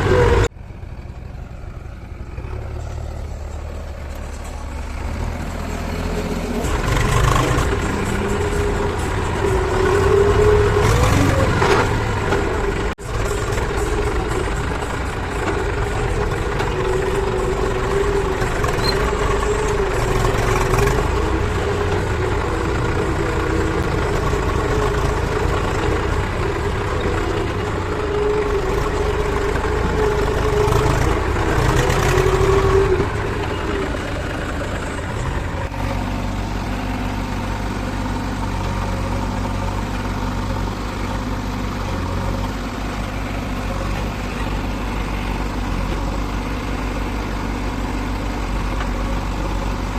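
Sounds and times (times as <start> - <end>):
diesel engines running: 0.0 - 49.9.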